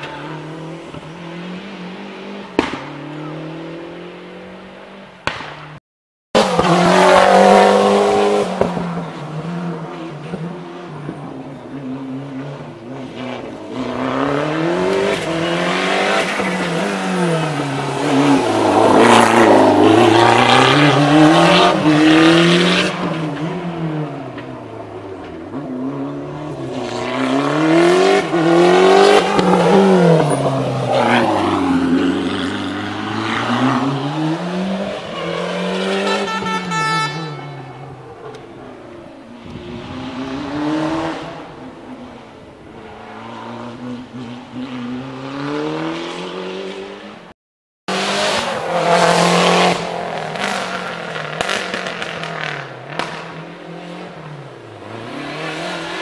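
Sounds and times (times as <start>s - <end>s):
rally car engine revving: 0.0s - 5.8s, 6.4s - 37.3s, 38.2s - 47.3s, 47.9s - 56.0s.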